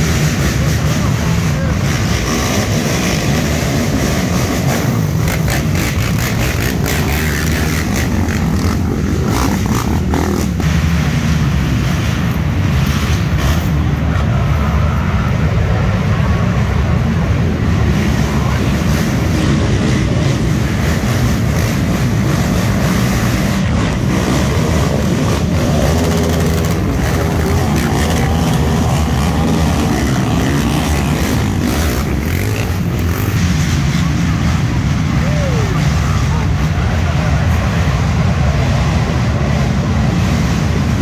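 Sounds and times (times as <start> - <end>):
atv engines droning: 0.0 - 41.0.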